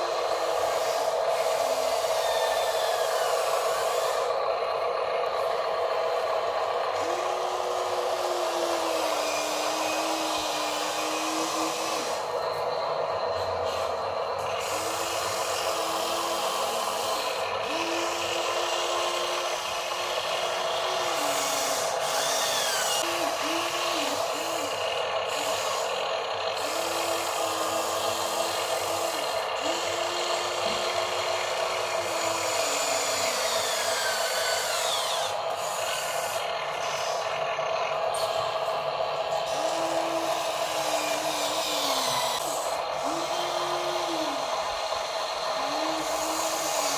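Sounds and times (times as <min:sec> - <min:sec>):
lower motor whine: 0:00.0 - 0:46.9
small electric motors whirring: 0:00.0 - 0:46.9.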